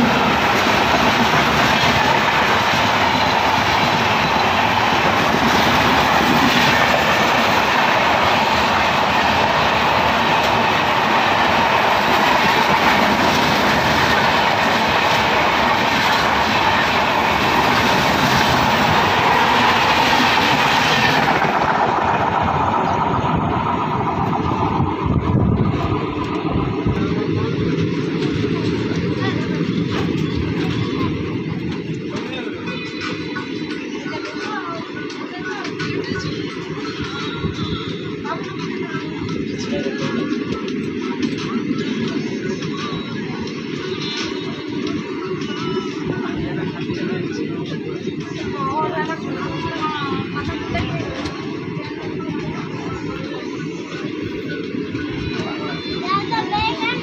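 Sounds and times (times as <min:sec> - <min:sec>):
train wheels clickety-clack: 0:00.0 - 0:57.0
trains passing rushing rattle: 0:00.0 - 0:57.0.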